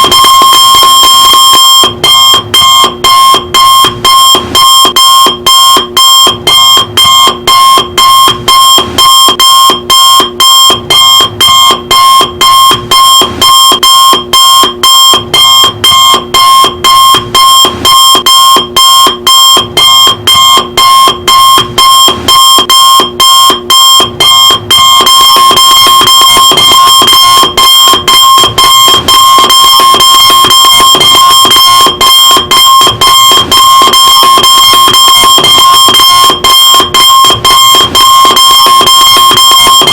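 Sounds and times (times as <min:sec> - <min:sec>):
alarm clock beeping: 0:00.0 - 0:39.9.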